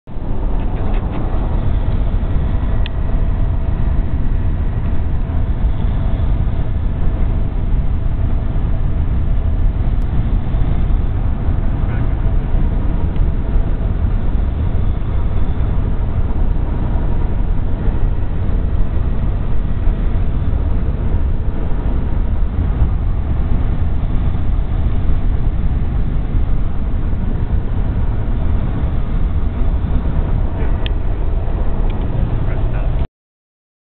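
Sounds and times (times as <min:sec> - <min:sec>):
car road and engine rumble: 0:00.0 - 0:33.1.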